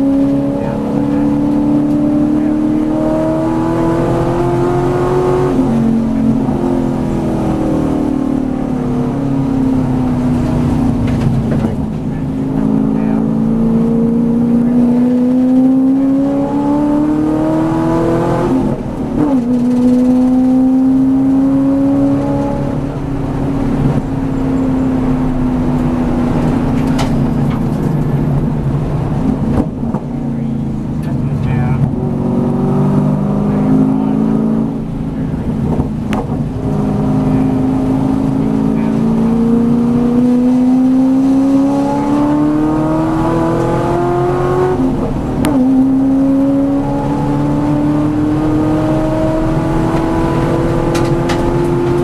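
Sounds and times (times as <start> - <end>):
racing engine accelerating: 0.0 - 52.0.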